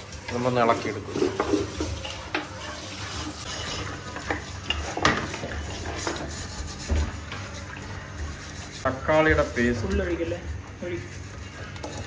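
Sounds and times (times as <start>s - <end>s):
meat sizzling in oil: 0.0s - 9.7s
spatula scraping pot: 0.0s - 12.0s.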